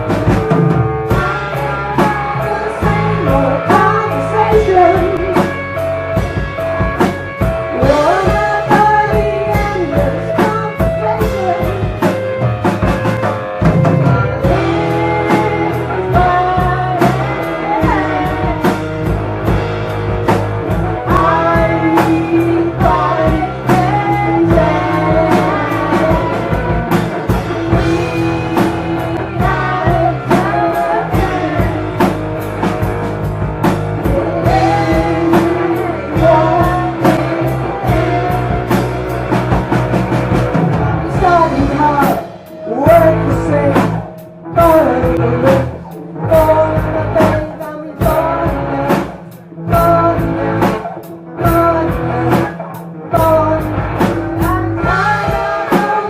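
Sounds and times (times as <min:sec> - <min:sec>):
live rock band playing: 0:00.0 - 0:56.0
person singing: 0:01.0 - 0:05.8, 0:07.6 - 0:12.4, 0:13.8 - 0:19.1, 0:20.7 - 0:32.4, 0:34.0 - 0:39.2, 0:40.6 - 0:56.0.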